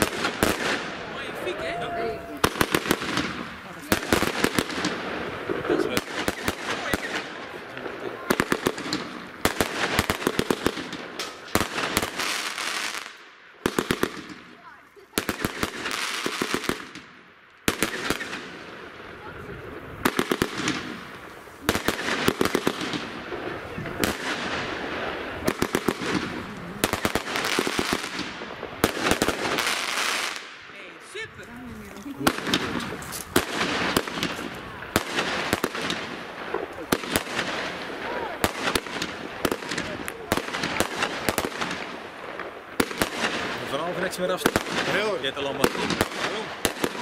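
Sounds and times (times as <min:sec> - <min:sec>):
fireworks bangs: 0:00.0 - 0:47.0
fireworks crackling hiss: 0:00.0 - 0:47.0.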